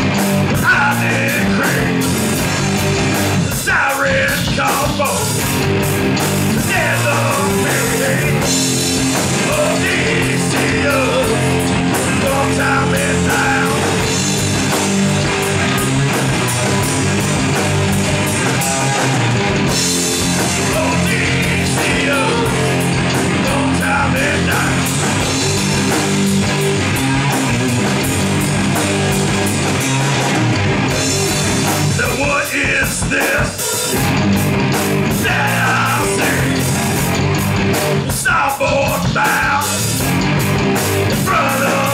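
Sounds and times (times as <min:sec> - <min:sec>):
distorted electric guitar: 0:00.0 - 0:41.9
drum kit: 0:00.0 - 0:41.9
electric bass: 0:00.0 - 0:41.9.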